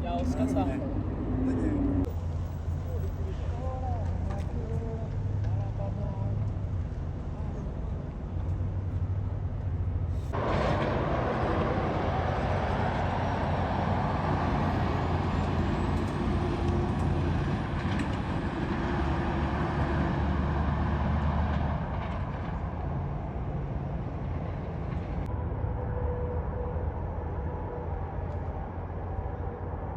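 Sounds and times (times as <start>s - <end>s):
diesel truck engines droning: 0.0s - 29.9s
tyre and road noise: 0.0s - 29.9s.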